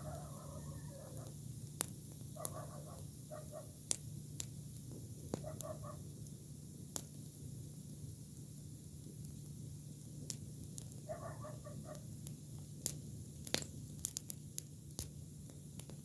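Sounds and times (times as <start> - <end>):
campfire burning: 0.0 - 16.0.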